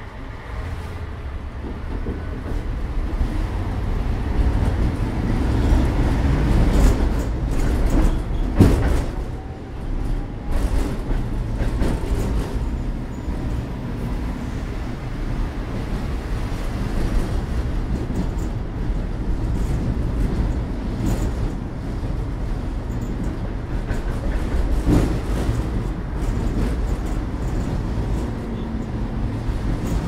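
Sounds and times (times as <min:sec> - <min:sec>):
tram car rattling: 0:00.0 - 0:30.0
tram wheels rumbling on rails: 0:00.0 - 0:30.0.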